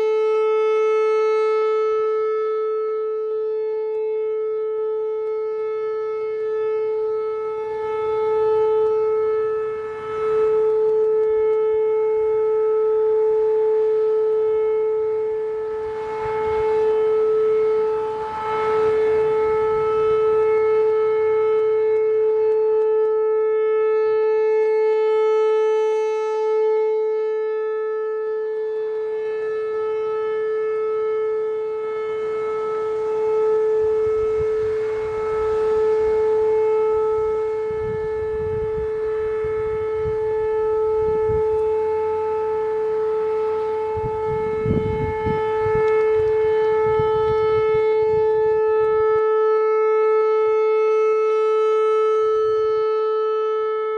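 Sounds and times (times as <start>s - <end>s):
rotating warning siren steady tone: 0.0s - 53.9s.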